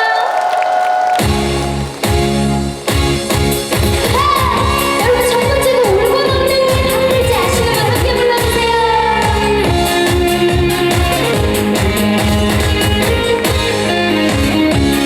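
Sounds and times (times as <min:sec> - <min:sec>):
upbeat trot-style pop music: 0:01.2 - 0:15.0.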